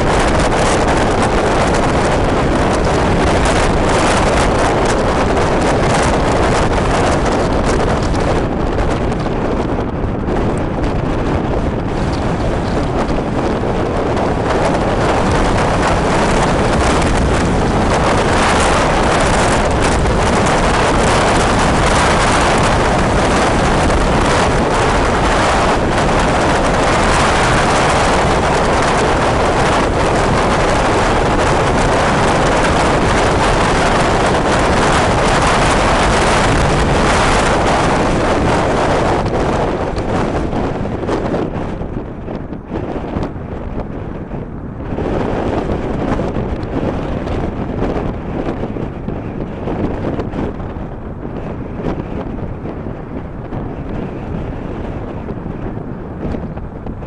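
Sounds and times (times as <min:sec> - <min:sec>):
road noise: 0:00.0 - 0:57.0
wind roaring over microphone: 0:00.0 - 0:57.0.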